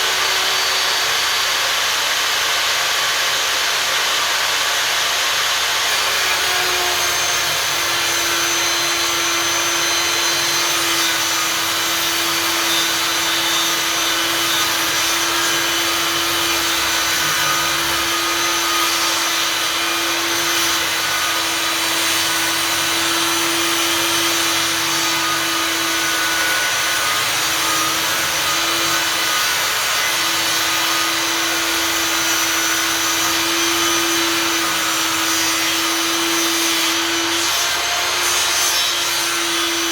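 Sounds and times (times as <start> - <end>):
table saw cutting wooden boards: 0.0 - 39.9.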